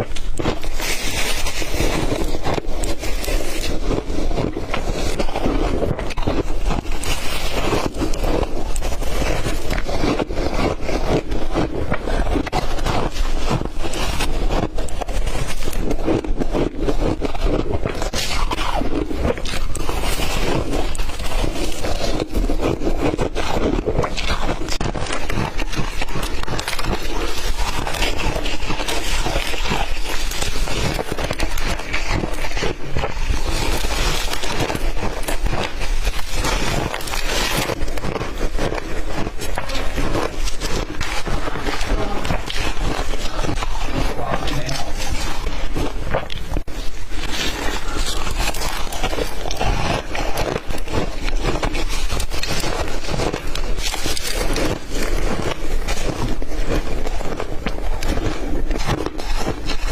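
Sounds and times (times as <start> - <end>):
ice being chewed: 0.0 - 59.9.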